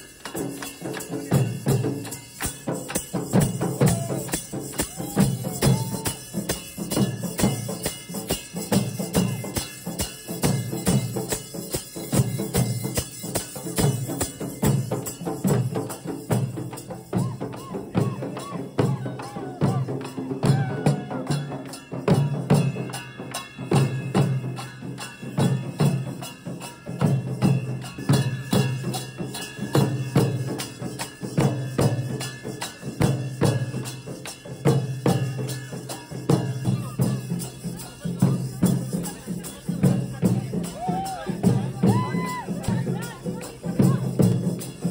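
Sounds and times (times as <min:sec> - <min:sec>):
barrel drums beaten with sticks: 0:00.0 - 0:44.9.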